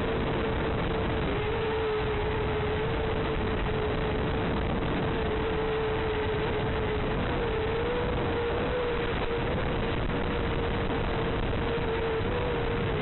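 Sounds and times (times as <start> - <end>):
constant mid-pitched hum: 0.0 - 13.0.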